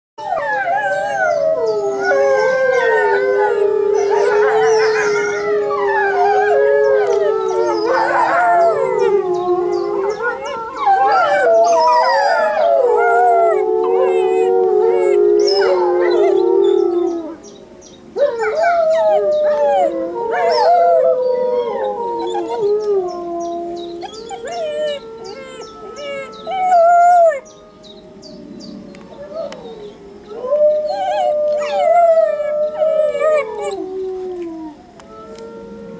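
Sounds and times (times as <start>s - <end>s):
puppy howling: 0.2s - 17.4s, 18.2s - 27.5s, 29.1s - 35.8s
wolves howling in chorus: 0.2s - 35.9s.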